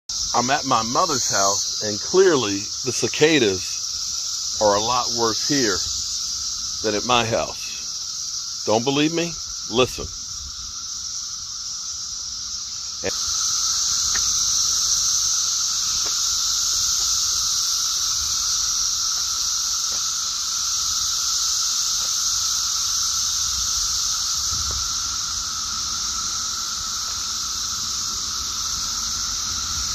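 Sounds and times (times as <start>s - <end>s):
cicadas droning: 0.0s - 29.9s.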